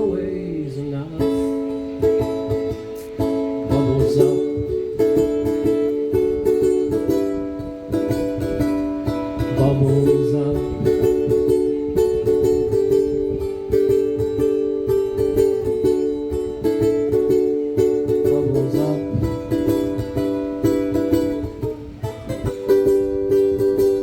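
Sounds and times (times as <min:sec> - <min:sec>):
strummed acoustic string chords: 0:00.0 - 0:24.0.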